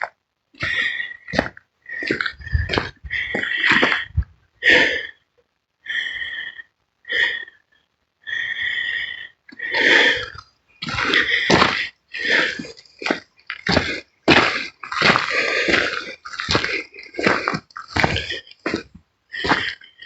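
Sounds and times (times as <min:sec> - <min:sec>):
person breathing hard: 0:00.6 - 0:20.0.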